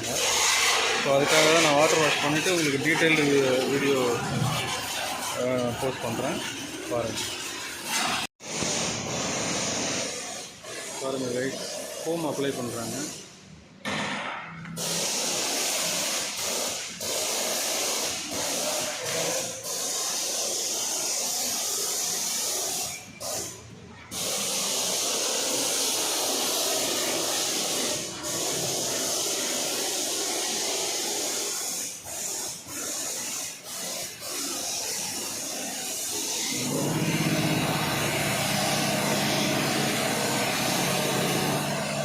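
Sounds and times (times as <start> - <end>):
foam spray gun hissing: 0.0 - 13.4, 14.7 - 42.0.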